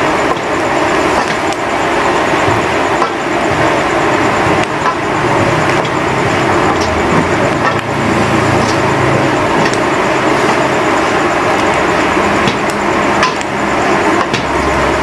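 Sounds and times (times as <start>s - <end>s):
gas burner rushing: 0.0s - 15.0s.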